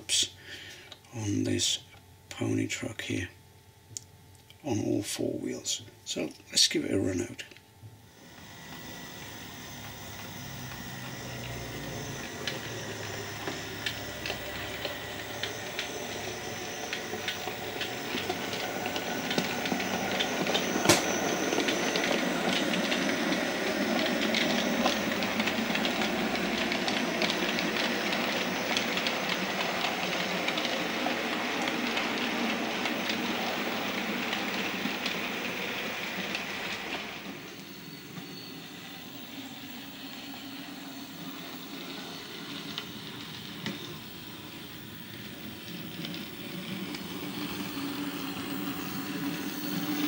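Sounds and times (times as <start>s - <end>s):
model train running: 8.1s - 50.0s
wheels clicking over rail joints: 8.2s - 50.0s.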